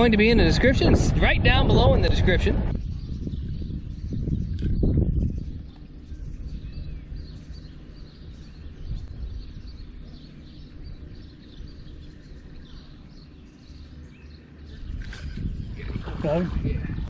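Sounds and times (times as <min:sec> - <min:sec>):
low steady rumble: 0:00.0 - 0:17.0
small birds chirping: 0:01.7 - 0:17.0.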